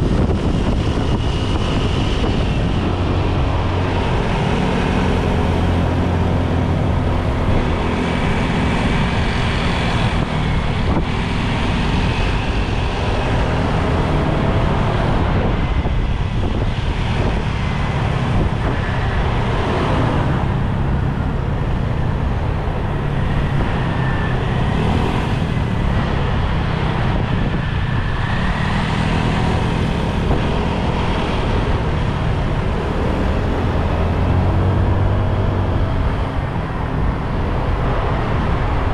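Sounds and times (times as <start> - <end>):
road noise: 0.0 - 38.9
wind rushing over microphone: 0.0 - 38.9.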